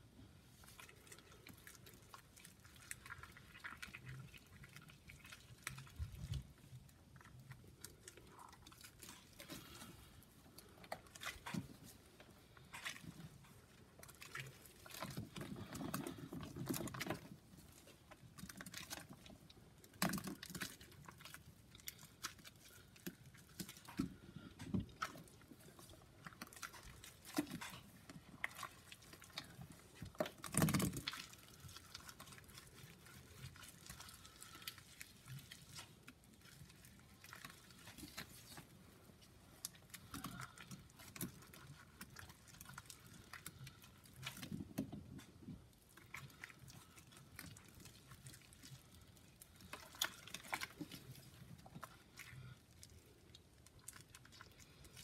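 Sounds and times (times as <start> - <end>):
wet paste squelching: 0.3 - 55.0.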